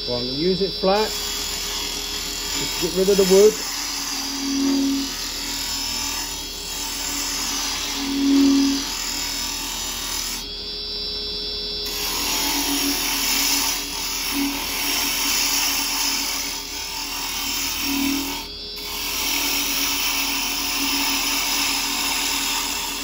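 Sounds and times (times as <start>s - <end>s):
lathe running hum: 0.0s - 23.0s
chisel hissing cut on wood: 0.4s - 10.5s, 11.8s - 23.0s.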